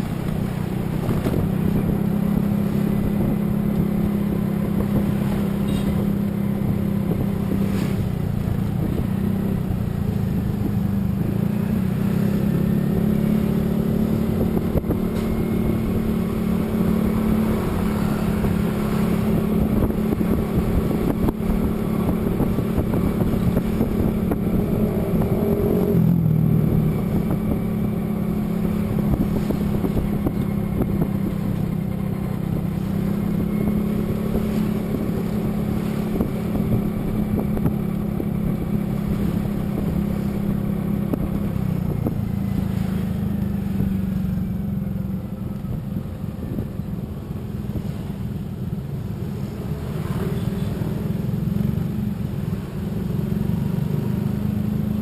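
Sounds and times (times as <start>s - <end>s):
vehicle engine running: 0.0s - 49.9s
road and wind noise: 0.0s - 55.0s.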